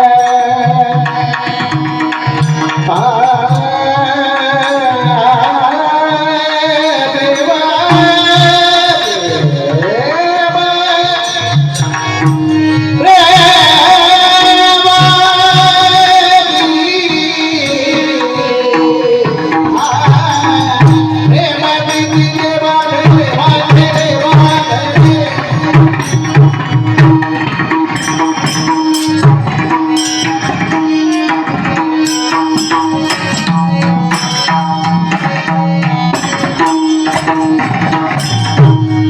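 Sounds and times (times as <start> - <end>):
hand drums: 0.0 - 39.0.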